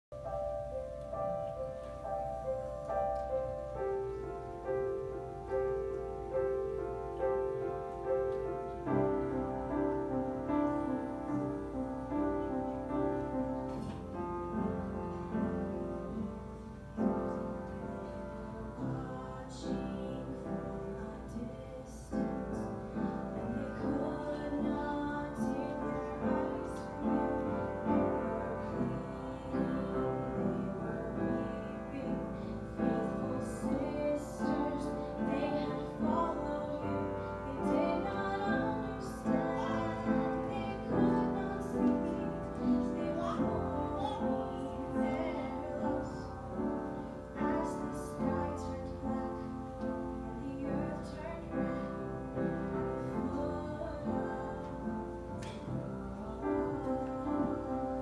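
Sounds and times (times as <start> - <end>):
gospel piano chords: 0.0 - 58.0.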